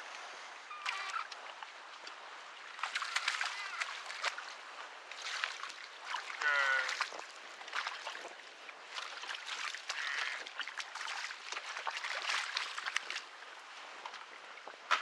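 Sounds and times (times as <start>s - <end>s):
water splashing against kayak hull: 0.8s - 15.0s.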